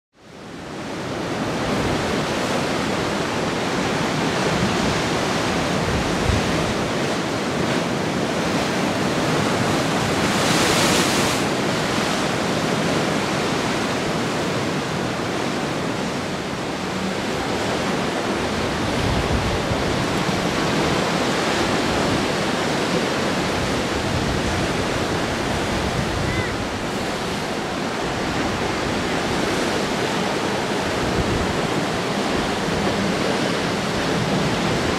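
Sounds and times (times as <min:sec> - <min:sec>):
ocean surf on rocks: 0:00.2 - 0:34.9.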